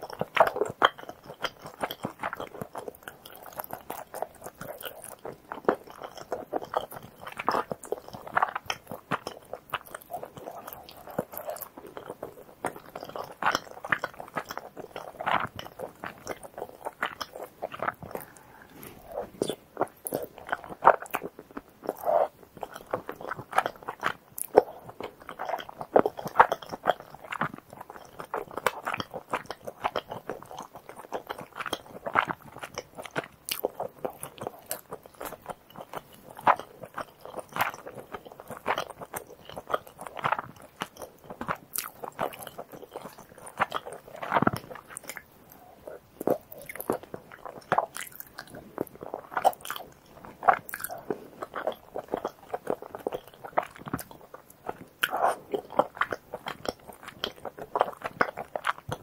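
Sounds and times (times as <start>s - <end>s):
close-miked chewing and mouth smacks: 0.0s - 59.0s.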